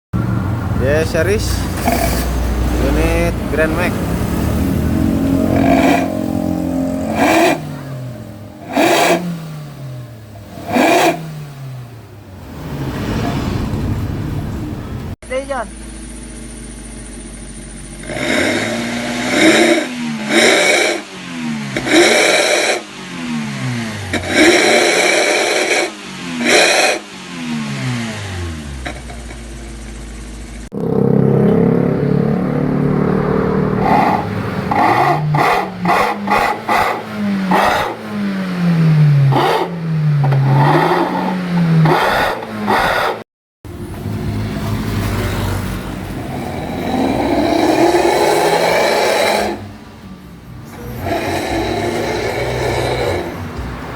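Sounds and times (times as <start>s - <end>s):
car engine revving: 0.2s - 53.9s.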